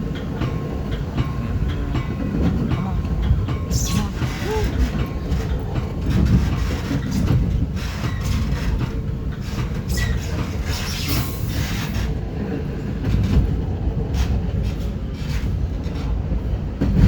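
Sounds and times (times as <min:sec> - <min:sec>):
train rumble: 0:00.0 - 0:17.0
wheels clicking over rail joints: 0:00.0 - 0:17.0.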